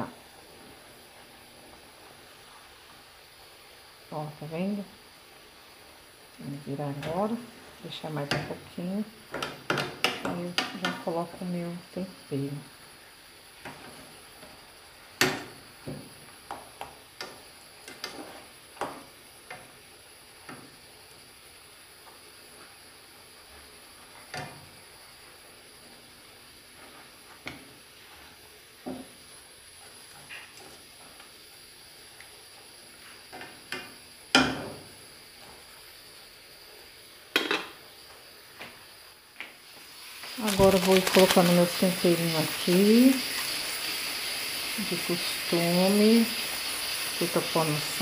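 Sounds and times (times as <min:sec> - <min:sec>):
chicken sizzling in pot: 0:00.0 - 0:48.0.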